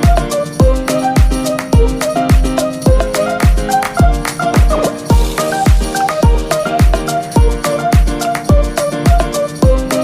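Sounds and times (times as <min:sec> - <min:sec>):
background music with deep kick drum: 0:00.0 - 0:10.0.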